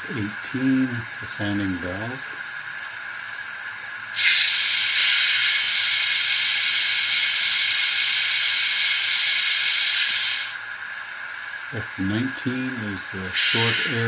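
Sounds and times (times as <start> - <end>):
air hiss from small speaker: 0.0 - 14.0.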